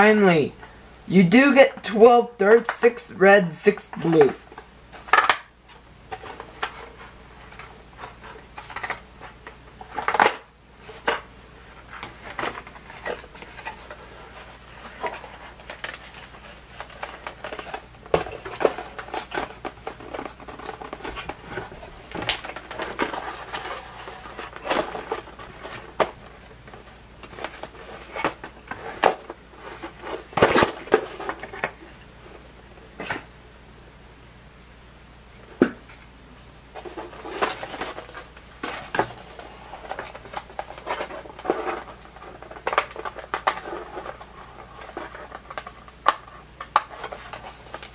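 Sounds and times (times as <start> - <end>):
plastic and cardboard rustling: 1.2 - 33.4, 35.3 - 47.9.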